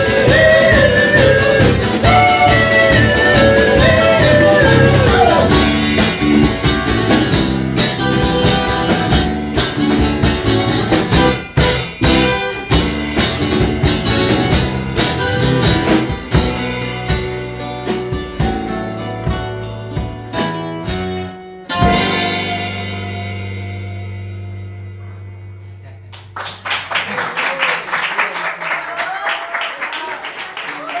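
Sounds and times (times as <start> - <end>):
folk-rock band playing: 0.0 - 27.0.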